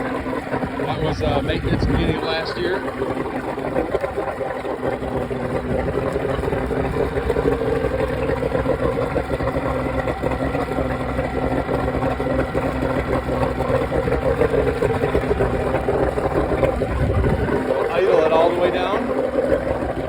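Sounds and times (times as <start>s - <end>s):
outboard engine running: 0.0s - 20.0s.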